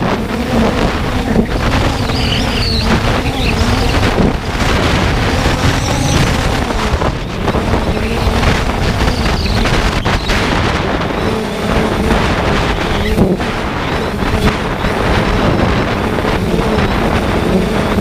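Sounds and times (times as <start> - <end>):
quadcopter motors humming: 0.0 - 18.0
wind buffeting microphone: 0.0 - 18.0.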